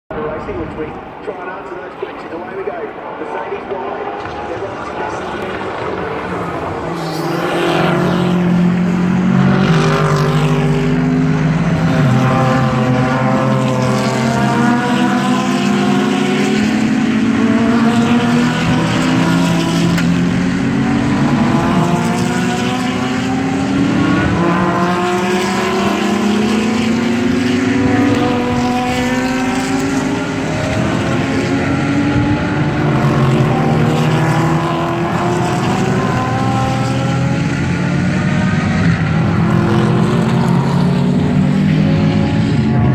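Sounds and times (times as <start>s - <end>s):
race cars accelerating: 0.1s - 42.9s.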